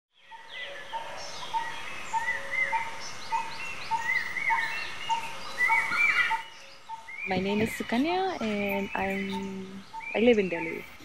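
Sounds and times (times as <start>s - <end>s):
birds chirping: 0.1s - 11.0s.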